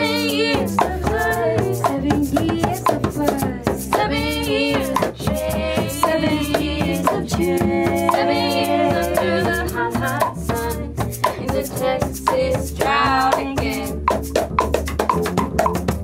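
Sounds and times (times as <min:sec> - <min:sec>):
women singing in harmony: 0:00.0 - 0:14.1
cajon strokes: 0:00.0 - 0:16.0
upright bass line: 0:00.0 - 0:16.0.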